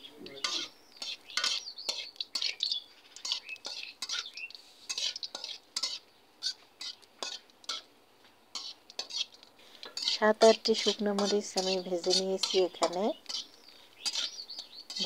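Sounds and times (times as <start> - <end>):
metal spatula scraping wok: 0.4 - 7.9, 8.5 - 15.0.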